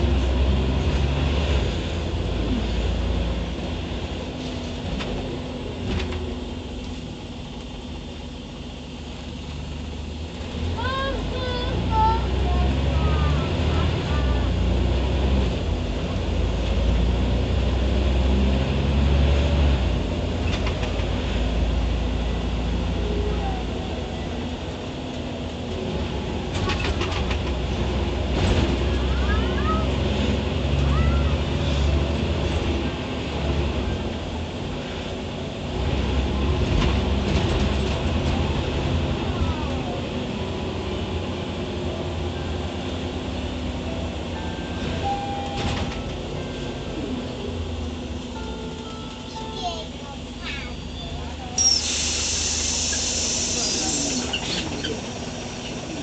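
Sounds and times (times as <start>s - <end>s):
bus engine droning: 0.0s - 56.0s.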